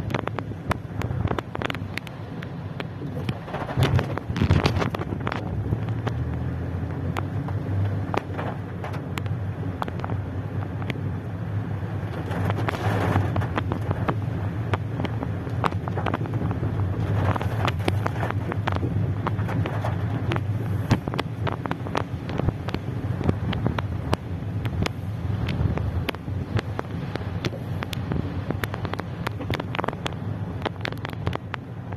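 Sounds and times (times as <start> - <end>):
moving car hum: 0.0 - 31.9
rain pattering on car roof: 0.0 - 31.9.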